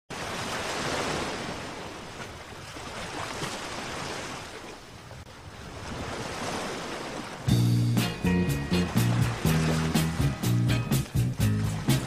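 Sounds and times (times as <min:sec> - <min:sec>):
ocean waves washing: 0:00.1 - 0:12.0.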